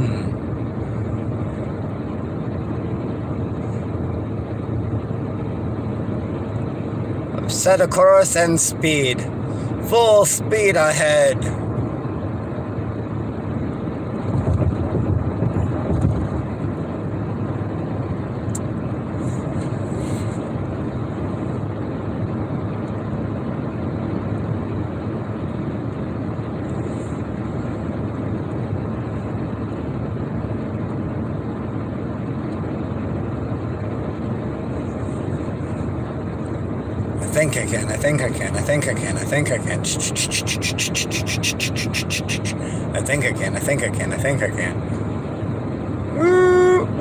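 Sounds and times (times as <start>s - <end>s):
road noise inside vehicle: 0.0s - 47.0s.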